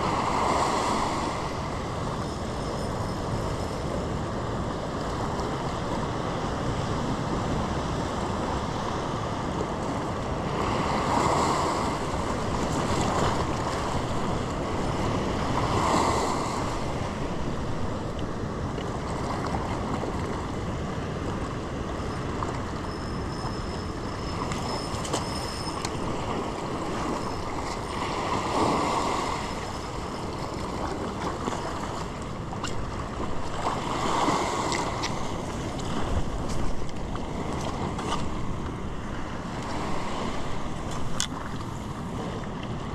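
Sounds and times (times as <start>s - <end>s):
surf washing against rocks: 0.0s - 2.2s, 4.0s - 22.8s, 24.0s - 42.9s
waves breaking: 0.0s - 42.9s.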